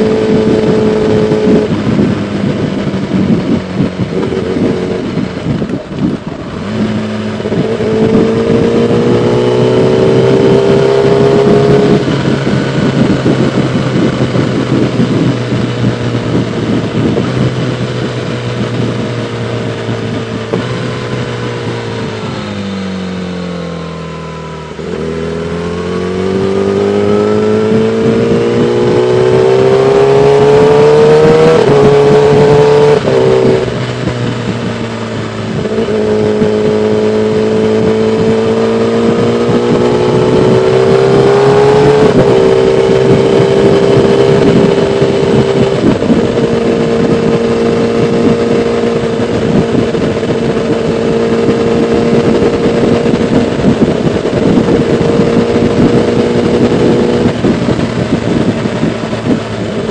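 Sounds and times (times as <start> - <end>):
motorcycle engine revving: 0.0 - 59.9
wind rushing over microphone: 0.0 - 59.9.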